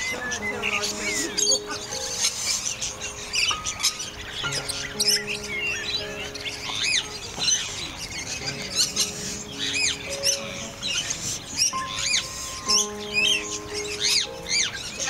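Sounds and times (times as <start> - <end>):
high bird chirps: 0.0 - 15.0
music of long held notes: 0.0 - 15.0.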